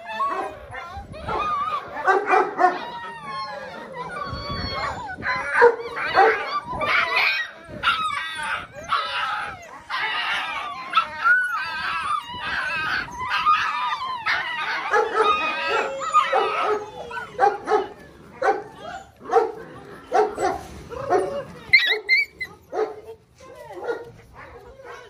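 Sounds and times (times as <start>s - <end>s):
puppies yapping and squealing: 0.0s - 25.0s.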